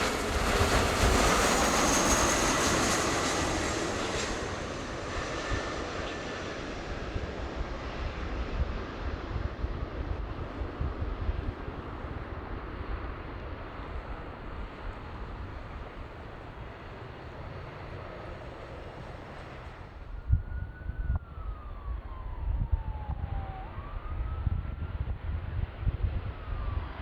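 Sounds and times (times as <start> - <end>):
jet engine rushing: 0.0 - 24.4
wind buffeting microphone: 0.0 - 27.0
distant siren wailing: 0.1 - 27.0.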